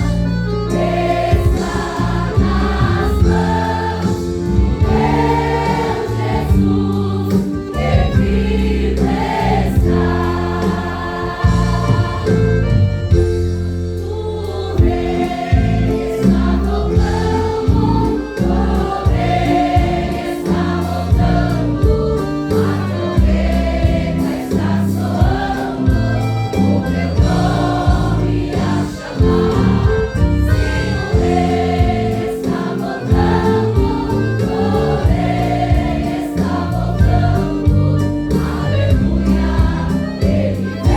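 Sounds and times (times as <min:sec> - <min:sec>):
band accompaniment with steady beat: 0:00.0 - 0:40.9
choir singing: 0:00.7 - 0:13.1, 0:14.0 - 0:40.9.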